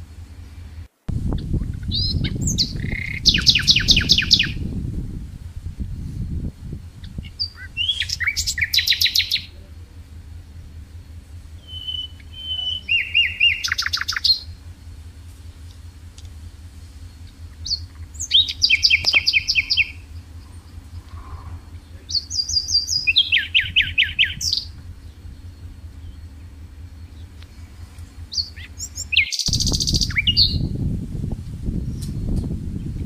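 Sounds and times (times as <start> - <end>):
low rumbling noise: 0.0 - 33.0
songbird trilling: 1.3 - 4.8, 6.7 - 30.8.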